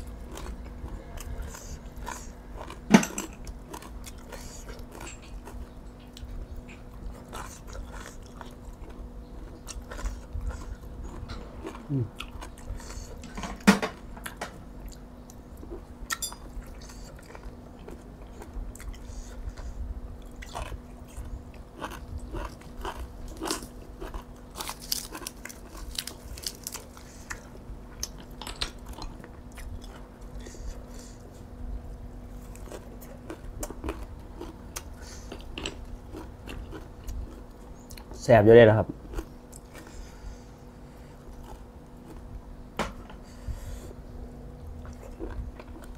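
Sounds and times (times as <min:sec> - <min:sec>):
person chewing and crunching food: 0:00.0 - 0:38.2, 0:38.8 - 0:45.9.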